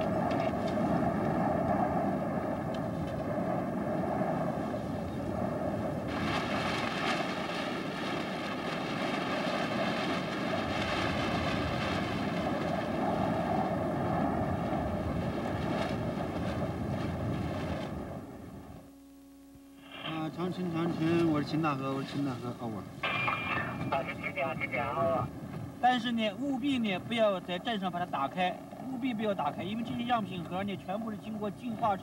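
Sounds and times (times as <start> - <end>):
wind buffeting the microphone: 0.0 - 18.9, 20.4 - 32.0.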